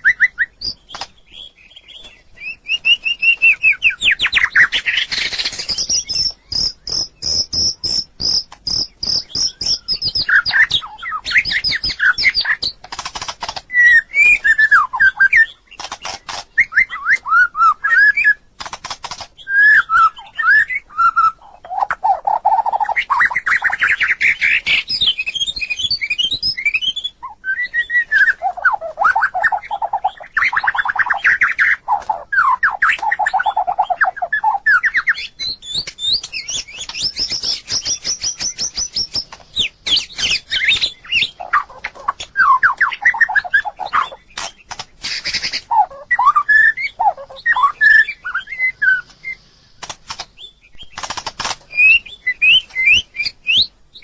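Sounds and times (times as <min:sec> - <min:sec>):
songbird singing varied song: 0:00.0 - 0:54.0.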